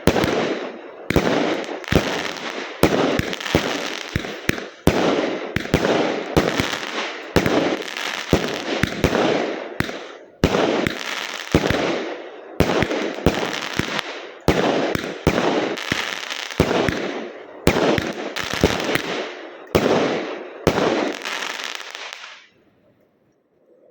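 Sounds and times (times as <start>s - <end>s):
fireworks bangs: 0.0s - 22.6s
fireworks crackling: 0.0s - 22.6s.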